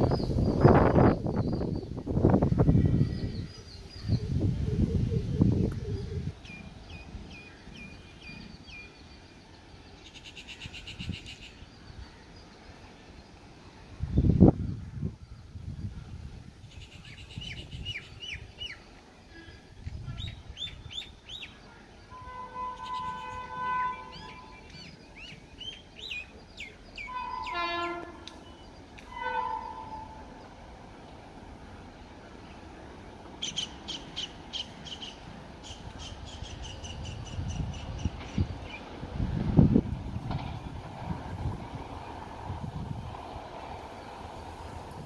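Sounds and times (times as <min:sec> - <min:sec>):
low rumble of train: 0:00.0 - 0:45.0.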